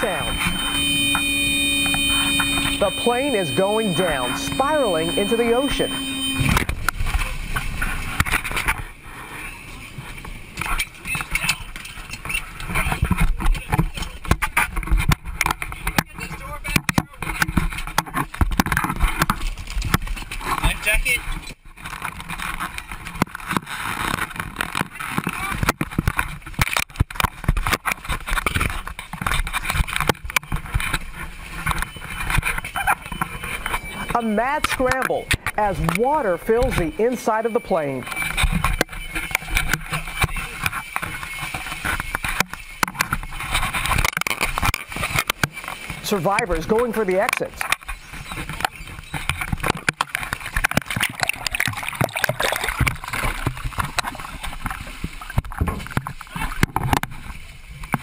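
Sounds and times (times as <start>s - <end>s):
water splashing and sloshing: 0.0s - 58.0s.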